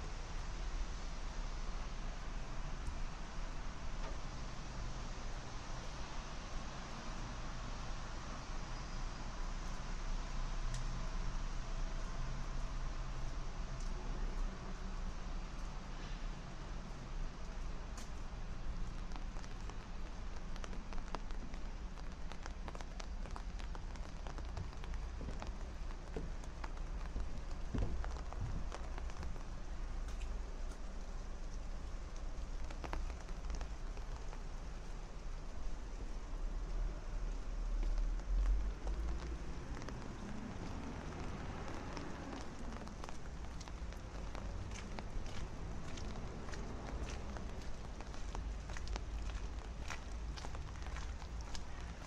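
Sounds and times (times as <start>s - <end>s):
raindrops ticking near microphone: 0.0s - 52.0s
steady rain hiss: 0.0s - 52.0s.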